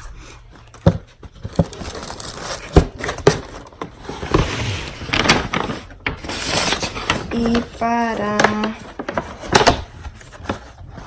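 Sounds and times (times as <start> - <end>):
packaging crinkling and rustling: 0.5 - 11.0.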